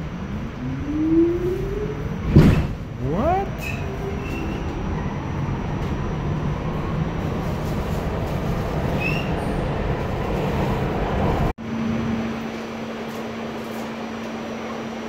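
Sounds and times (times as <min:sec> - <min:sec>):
subway car running: 0:00.0 - 0:15.0.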